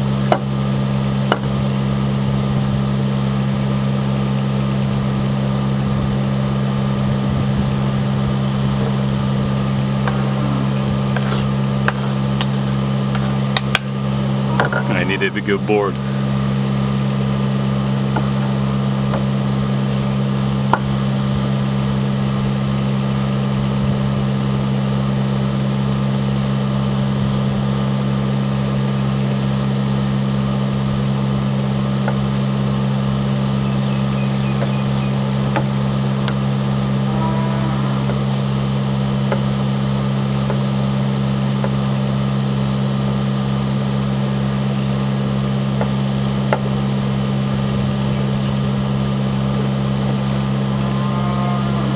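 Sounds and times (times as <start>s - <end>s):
machine humming: 0.0s - 51.9s.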